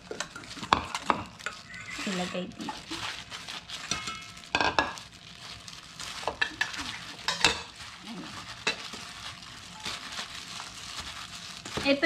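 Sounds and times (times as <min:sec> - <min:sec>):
wet crackling rustle of salad: 0:00.0 - 0:12.0.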